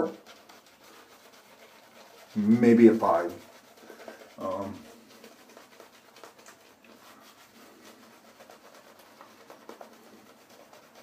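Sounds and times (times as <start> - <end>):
shaving brush swishing lather: 0.0 - 11.0.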